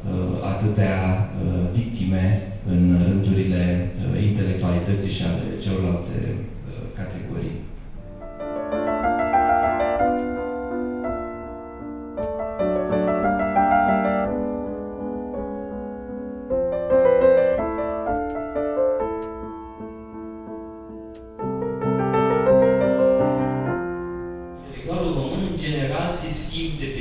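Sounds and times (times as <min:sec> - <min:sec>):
slow piano chords: 0:00.0 - 0:26.8.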